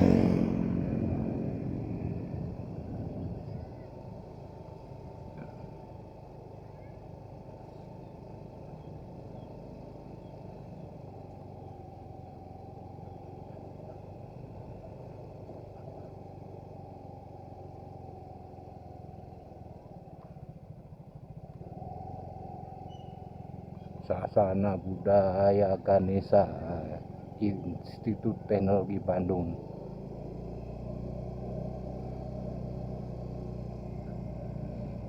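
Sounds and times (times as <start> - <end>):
motorcycle engine drone: 0.0 - 35.0.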